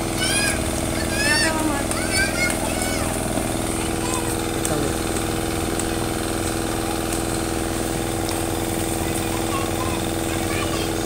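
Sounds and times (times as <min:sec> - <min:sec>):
motor droning hum: 0:00.0 - 0:11.0.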